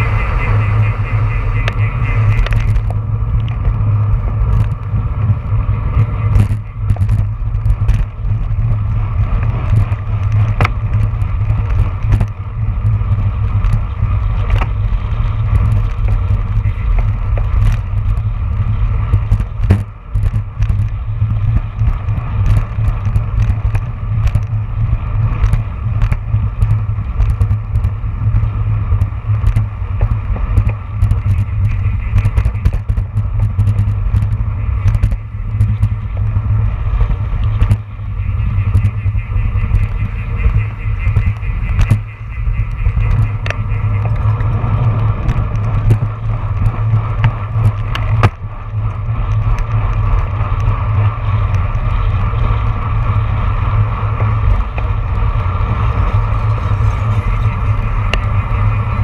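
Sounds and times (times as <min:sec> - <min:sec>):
bike clicks and rattles: 0:00.0 - 0:59.0
wind rumbling over microphone: 0:00.0 - 0:59.0.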